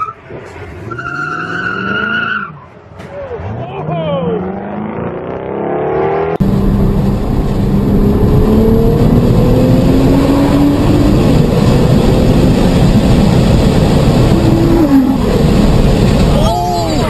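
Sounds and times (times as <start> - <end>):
car engine accelerating: 3.1 - 17.0.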